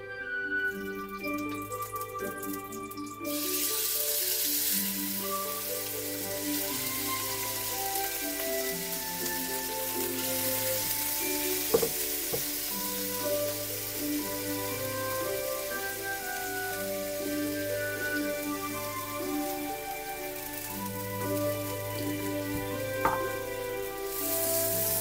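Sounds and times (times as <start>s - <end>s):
chicken sizzling in hot oil: 0.7s - 25.0s.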